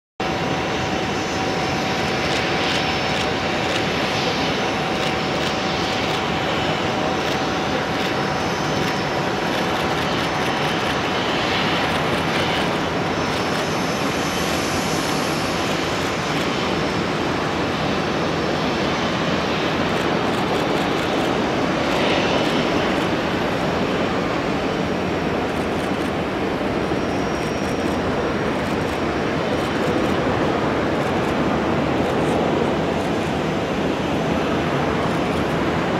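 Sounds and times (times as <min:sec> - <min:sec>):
jet engine noise with whine: 0:00.2 - 0:35.9.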